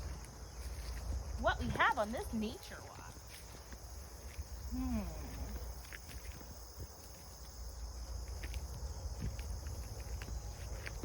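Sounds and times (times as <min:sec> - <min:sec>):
footsteps: 0:00.0 - 0:11.0
insects droning: 0:00.0 - 0:11.0.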